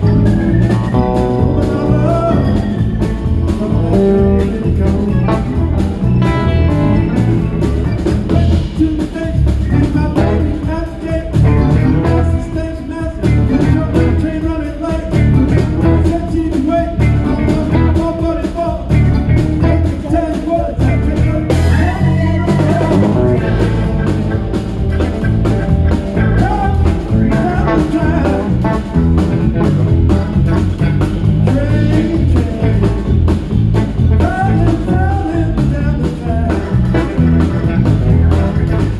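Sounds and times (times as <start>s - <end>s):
electric bass: 0.0s - 20.1s, 20.7s - 38.9s
drum kit beat: 0.0s - 38.9s
electric guitar: 0.0s - 38.9s.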